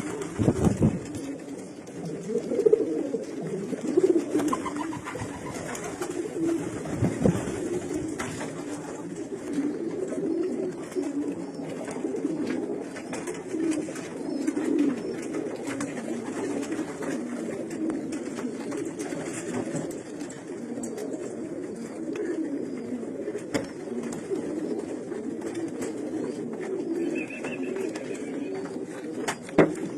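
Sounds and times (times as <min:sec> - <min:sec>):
pigeons cooing: 0:00.0 - 0:29.9.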